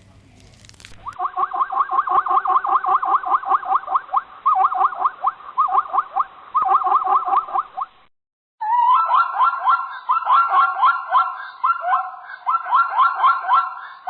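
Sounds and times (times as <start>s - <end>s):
animal calling in rapid notes: 1.0s - 8.0s, 8.6s - 14.0s.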